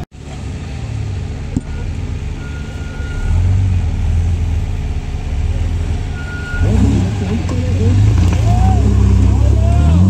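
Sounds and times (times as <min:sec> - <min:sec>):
off-road engine crawling under load: 0:00.0 - 0:10.0.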